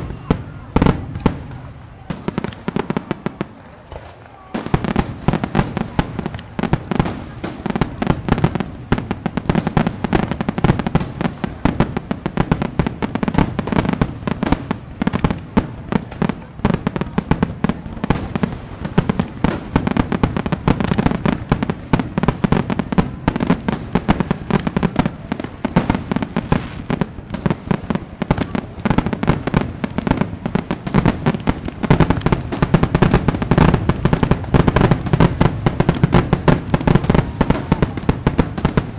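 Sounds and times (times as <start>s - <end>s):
fireworks crackling and banging: 0.0s - 38.9s.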